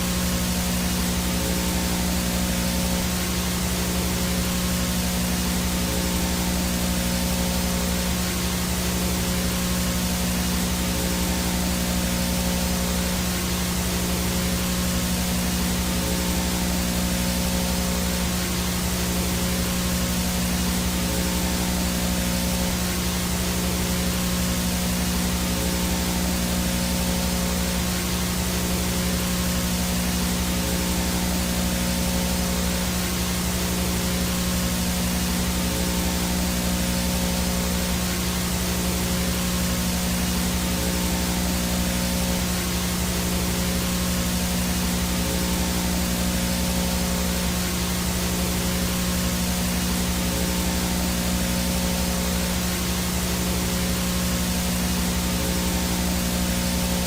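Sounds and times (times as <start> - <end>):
faint high whine: 0.0 - 57.0
low buzzing hum: 0.0 - 57.0
white noise static hiss: 0.0 - 57.0.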